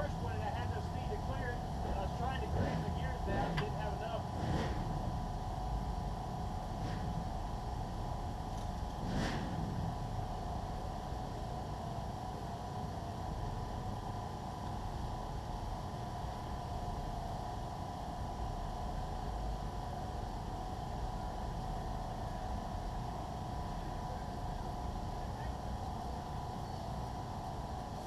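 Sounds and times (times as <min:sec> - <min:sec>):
steady engine drone: 0:00.0 - 0:28.0.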